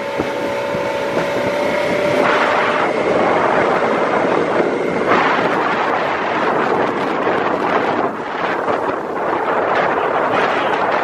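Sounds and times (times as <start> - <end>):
outboard motor whining: 0.0 - 11.0
water noise: 0.0 - 11.0
wind buffeting microphone: 0.0 - 11.0.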